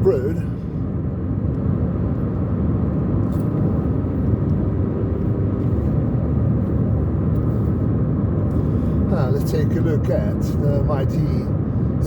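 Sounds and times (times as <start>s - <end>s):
car engine and tyre road noise: 0.0s - 12.0s.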